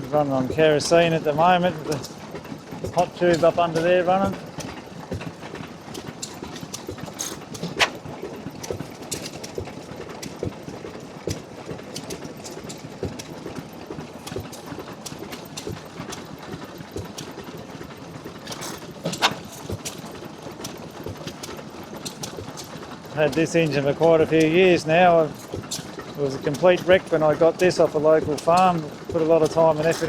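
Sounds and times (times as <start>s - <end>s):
oil engine running: 0.0s - 30.0s
sharp engine knocks: 0.0s - 30.0s.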